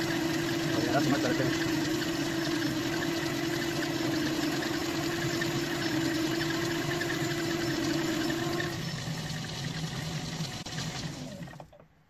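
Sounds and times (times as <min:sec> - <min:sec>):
metal lathe running: 0:00.0 - 0:11.4.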